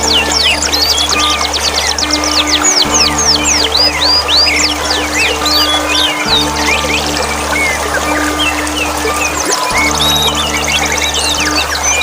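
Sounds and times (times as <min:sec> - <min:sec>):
music of held low notes: 0:00.0 - 0:12.0
running water hiss: 0:00.0 - 0:12.0
songbirds chirping and trilling: 0:00.0 - 0:12.0.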